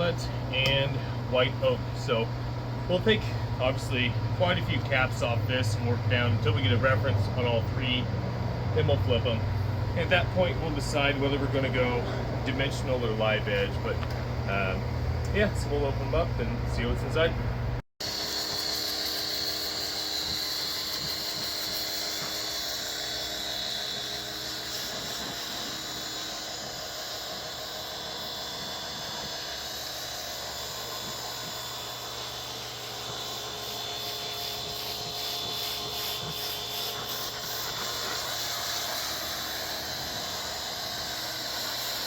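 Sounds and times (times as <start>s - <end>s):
band sawmill cutting logs: 0.0s - 17.4s, 18.0s - 42.0s.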